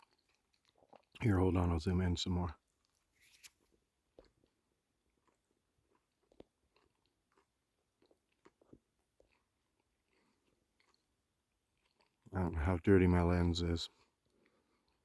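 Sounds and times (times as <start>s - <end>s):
person chewing a sandwich: 0.0s - 1.6s, 2.6s - 12.3s, 13.9s - 15.0s.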